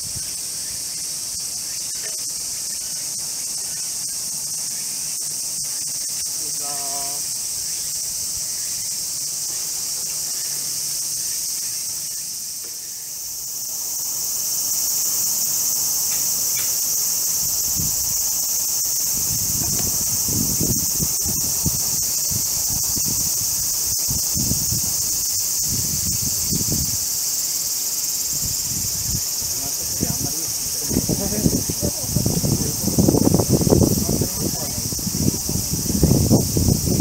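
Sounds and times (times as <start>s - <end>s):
cicadas chorus: 0.0s - 37.0s.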